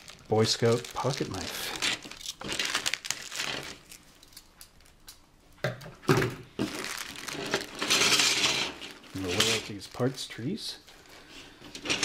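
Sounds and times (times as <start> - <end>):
plastic bag crinkling: 0.0 - 5.1, 6.6 - 12.0.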